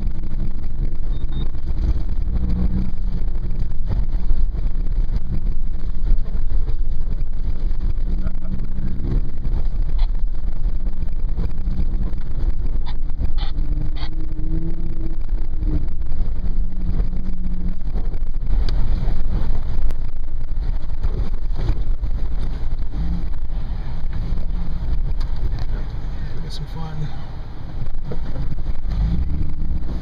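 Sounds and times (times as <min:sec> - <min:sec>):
car engine under load: 0:00.0 - 0:30.0.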